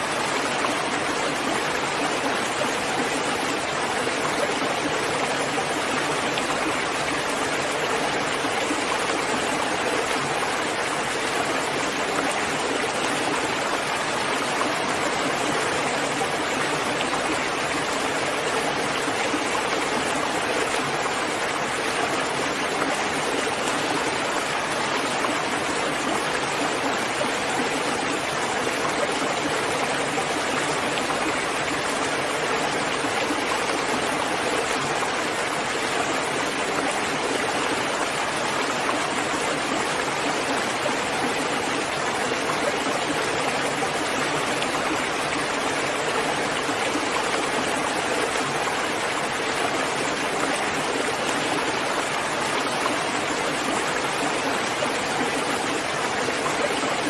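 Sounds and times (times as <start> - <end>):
steady heavy rain: 0.0 - 57.0.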